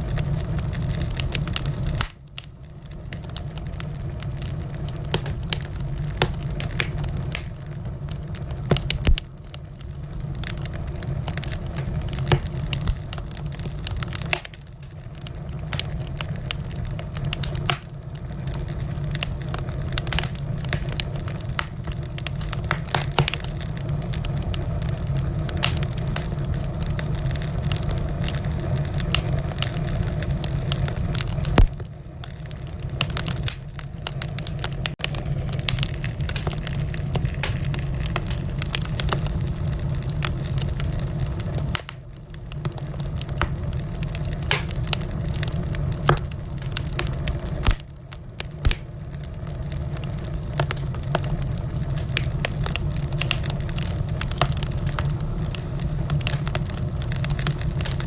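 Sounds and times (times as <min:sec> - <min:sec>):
fire crackling and popping: 0:00.0 - 0:58.0
fire flames rumbling: 0:00.0 - 0:58.0.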